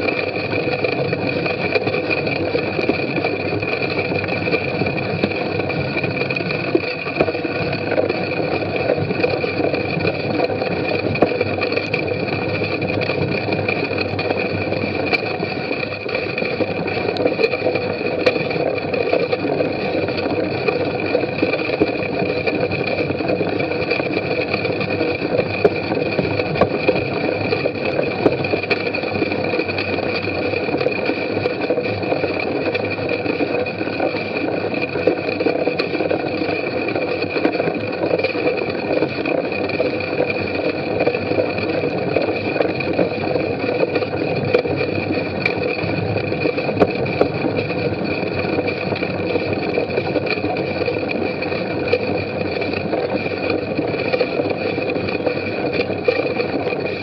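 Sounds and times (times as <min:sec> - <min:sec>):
bicycle tyre rolling noise: 0:00.0 - 0:57.0
bike rattling and knocking: 0:00.0 - 0:57.0.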